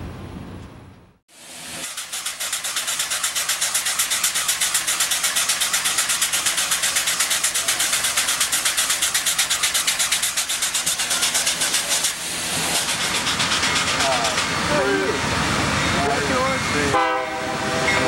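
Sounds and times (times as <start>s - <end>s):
steam locomotive pulsing hiss: 1.3s - 18.0s.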